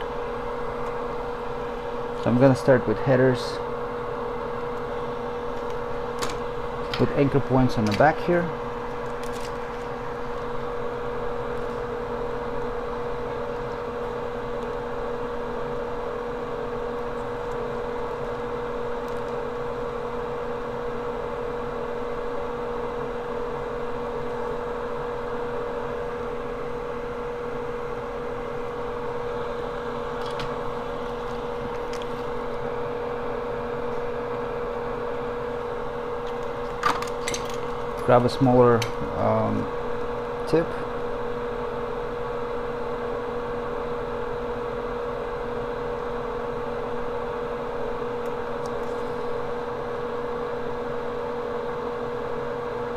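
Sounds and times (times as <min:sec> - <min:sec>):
workbench equipment humming: 0:00.0 - 0:52.9.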